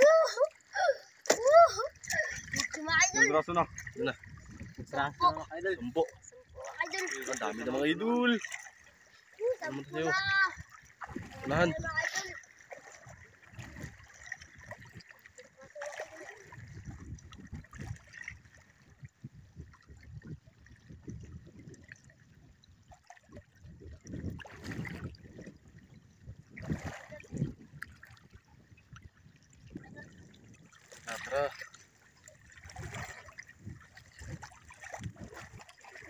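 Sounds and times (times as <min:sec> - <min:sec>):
loud water splashes: 0:00.0 - 0:19.0, 0:23.0 - 0:25.6, 0:26.5 - 0:28.4, 0:29.7 - 0:36.0
people wading through water: 0:00.0 - 0:36.0.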